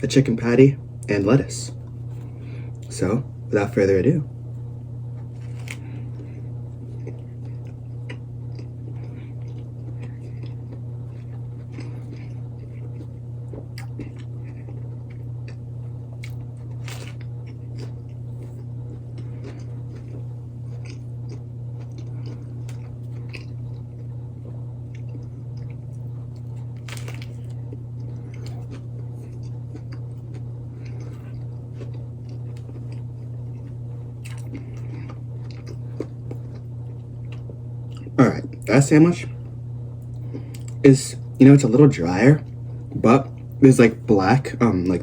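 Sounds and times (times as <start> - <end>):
low electrical hum: 0.0 - 45.0
person chewing a sandwich: 4.5 - 38.7, 39.4 - 41.4.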